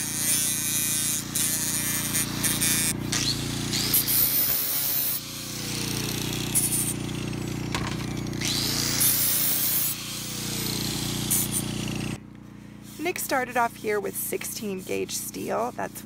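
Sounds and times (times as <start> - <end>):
grinding disc hissing on metal: 0.0 - 12.2, 12.8 - 16.0
angle grinder motor hum: 0.0 - 16.0.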